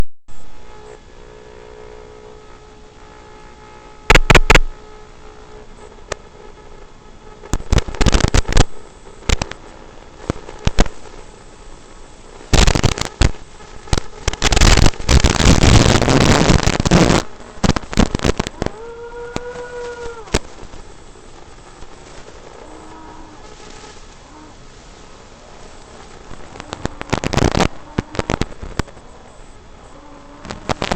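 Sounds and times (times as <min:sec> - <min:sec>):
faint steady hum with tones: 0:00.0 - 0:30.9
loud distorted crackling bursts: 0:00.0 - 0:30.9.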